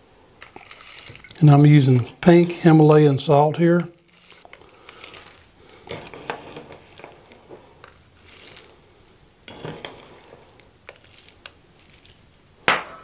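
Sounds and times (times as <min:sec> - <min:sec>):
spoon scooping coarse salt: 0:00.4 - 0:12.3.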